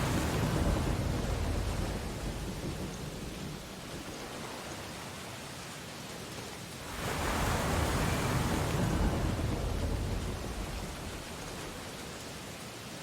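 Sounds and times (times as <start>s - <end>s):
ocean surf washing: 0.0s - 5.2s, 6.8s - 12.5s.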